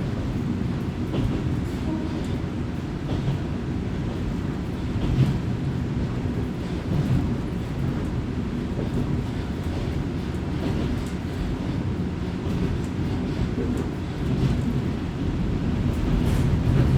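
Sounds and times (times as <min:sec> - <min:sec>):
railcar engine and wheels rumbling: 0:00.0 - 0:16.9.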